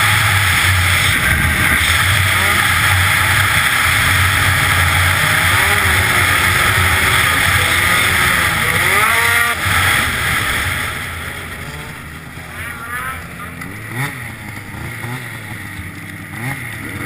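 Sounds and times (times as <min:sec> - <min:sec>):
snowmobile engine at high revs: 0:00.0 - 0:17.0.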